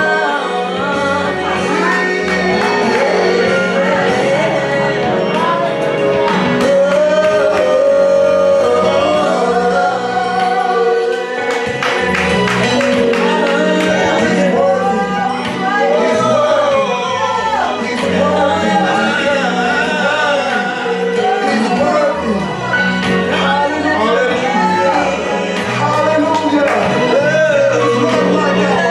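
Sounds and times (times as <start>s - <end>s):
worship song with accompaniment: 0.0s - 28.9s.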